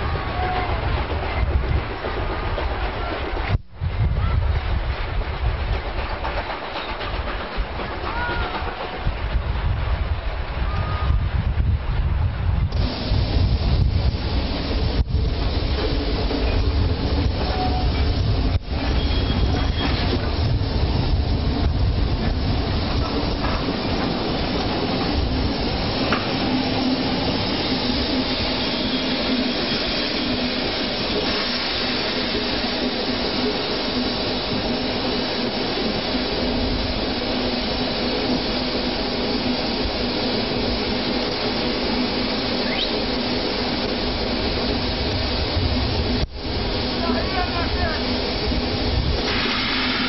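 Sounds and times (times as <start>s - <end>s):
steam locomotive rumbling: 0.0s - 50.0s
steam hissing: 4.2s - 50.0s.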